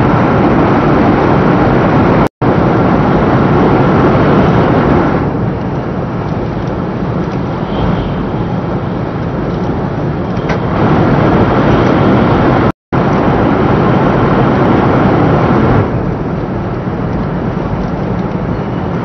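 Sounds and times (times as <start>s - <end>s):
train running noise inside cabin: 0.0s - 19.0s.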